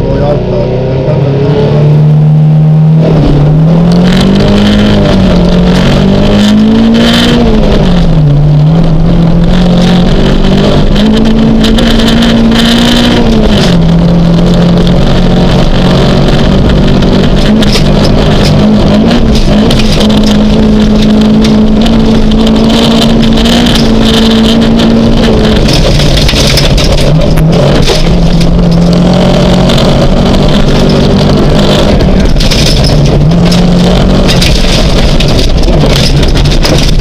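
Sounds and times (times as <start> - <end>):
car engine revving hard: 0.0 - 37.0
gravel rattling against car: 3.0 - 37.0.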